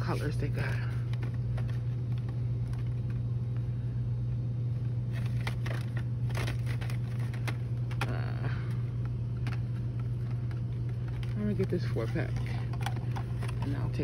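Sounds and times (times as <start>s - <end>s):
plastic packages crinkling: 0.0s - 3.7s, 4.8s - 14.0s
low hum: 0.0s - 14.0s.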